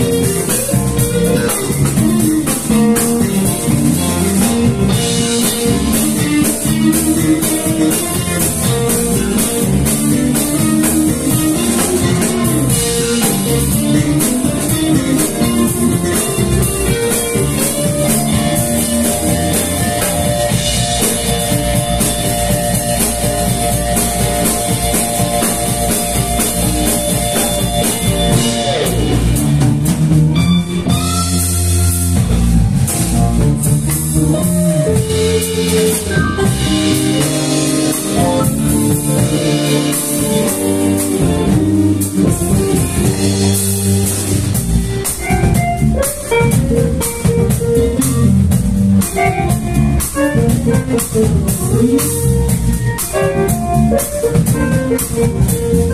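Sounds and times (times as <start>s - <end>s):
bass guitar: 0.0s - 55.9s
drum kit: 0.0s - 55.9s
electric guitars: 0.0s - 55.9s
keyboard: 0.0s - 55.9s.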